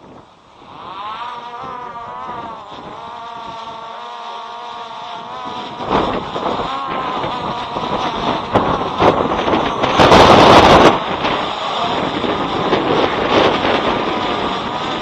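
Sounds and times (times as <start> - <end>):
drone propellers whining: 0.0 - 15.0
wind buffeting microphone: 0.0 - 15.0.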